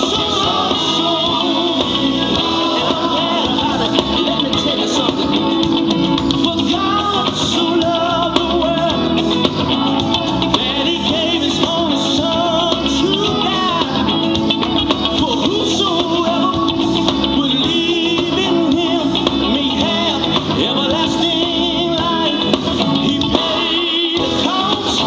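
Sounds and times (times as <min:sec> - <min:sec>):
instrumental music: 0:00.0 - 0:25.0
person singing: 0:00.0 - 0:25.0.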